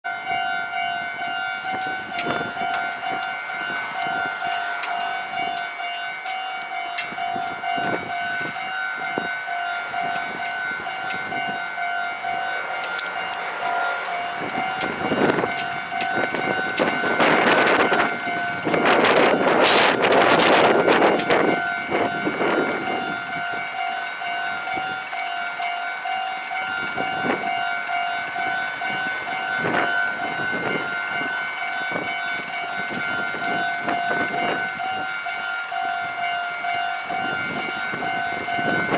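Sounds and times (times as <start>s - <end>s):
level crossing alarm ringing: 0.0s - 38.9s
electric train passing: 0.1s - 38.9s
train wheel clicks: 0.2s - 38.9s.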